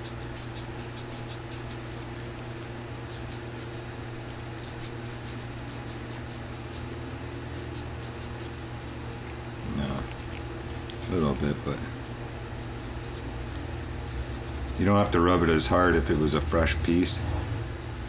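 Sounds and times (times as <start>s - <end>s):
scratchy rubbing on a coin: 0.0s - 9.0s, 12.4s - 18.0s
steady low hum: 0.0s - 18.0s.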